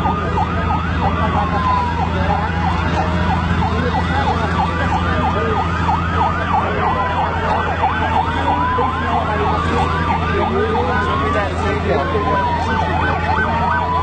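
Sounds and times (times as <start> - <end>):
siren wail: 0.0 - 14.0
siren yelp: 0.0 - 14.0.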